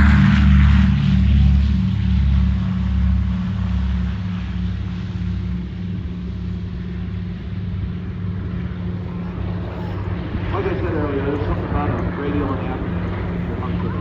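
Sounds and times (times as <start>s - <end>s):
propeller plane engines droning overhead: 0.0s - 14.0s.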